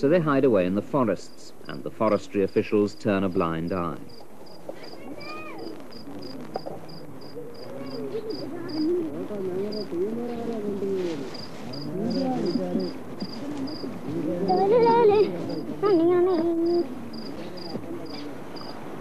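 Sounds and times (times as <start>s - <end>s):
people talking: 0.0s - 4.0s, 4.8s - 18.5s
insect chirping: 0.4s - 10.5s, 11.3s - 18.8s.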